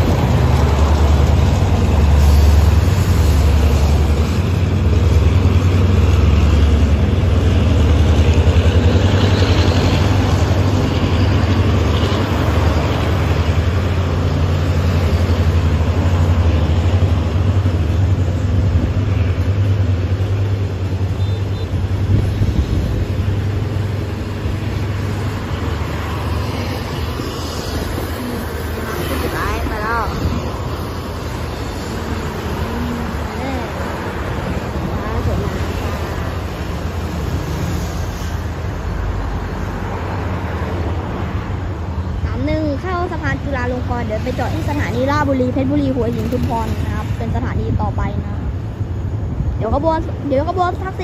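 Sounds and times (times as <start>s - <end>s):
passenger train passing: 0.0s - 51.0s
road traffic: 0.0s - 51.0s.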